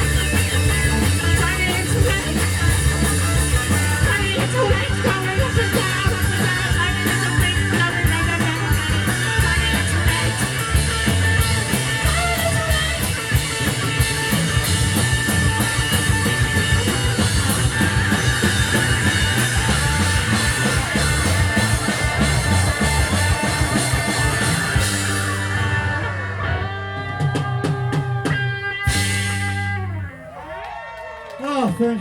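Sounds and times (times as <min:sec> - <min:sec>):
live space-rock band: 0:00.0 - 0:30.8.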